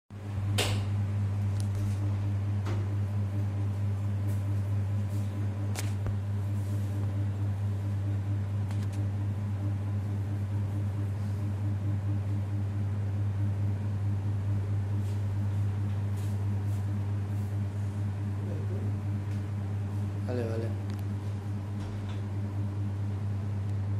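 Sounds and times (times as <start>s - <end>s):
low electrical hum: 0.1s - 23.9s.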